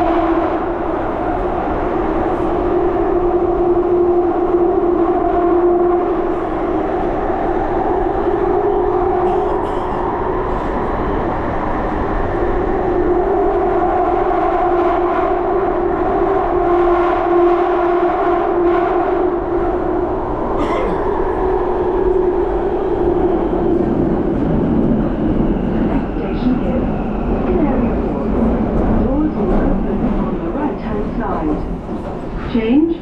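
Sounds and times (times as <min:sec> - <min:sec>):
train rumble in tunnel: 0:00.0 - 0:33.0.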